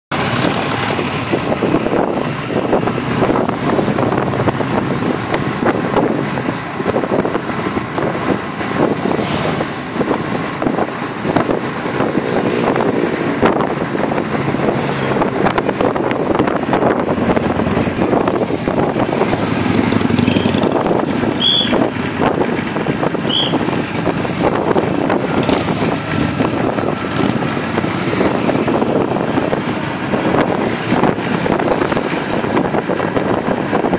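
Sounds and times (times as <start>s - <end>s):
motorcycle engines running loud: 0.1s - 33.9s.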